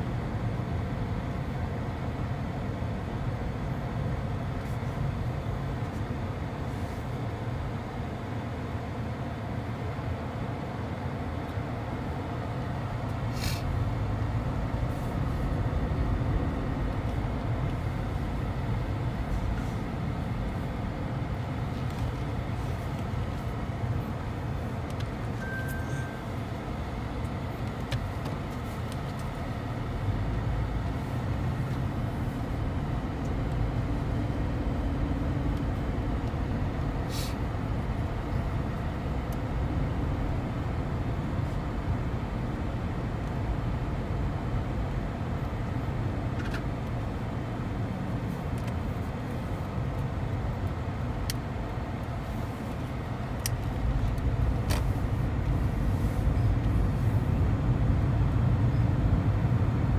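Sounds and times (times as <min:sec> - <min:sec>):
car cabin low rumble: 0:00.0 - 0:59.9.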